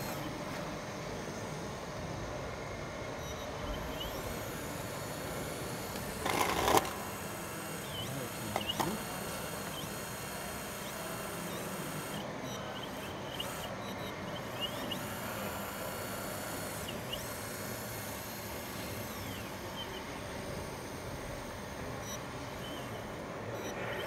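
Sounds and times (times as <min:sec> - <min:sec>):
model excavator motors whirring: 0:00.0 - 0:24.0.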